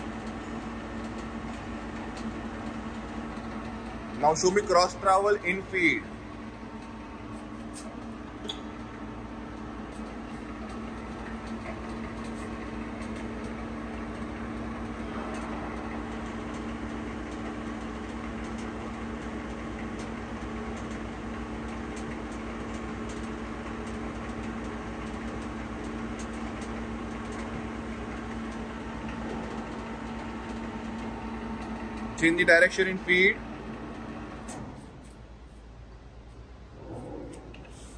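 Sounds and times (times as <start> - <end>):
lathe running: 0.0 - 34.7.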